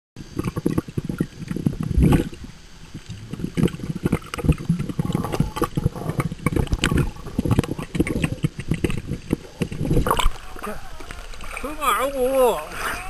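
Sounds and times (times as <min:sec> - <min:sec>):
water splashing and sloshing: 0:00.2 - 0:13.0.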